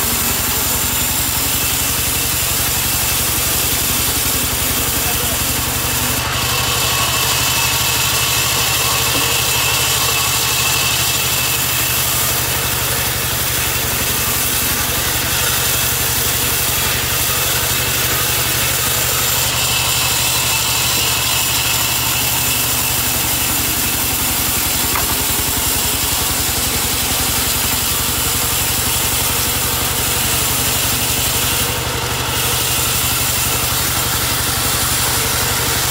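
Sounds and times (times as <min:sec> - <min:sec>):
band saw running: 0:00.0 - 0:35.9.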